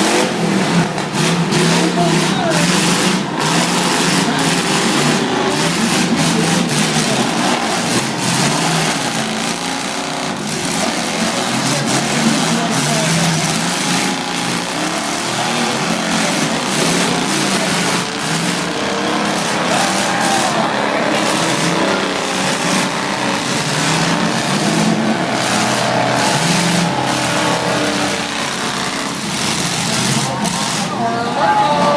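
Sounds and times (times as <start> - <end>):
car engines revving: 0.0 - 31.9.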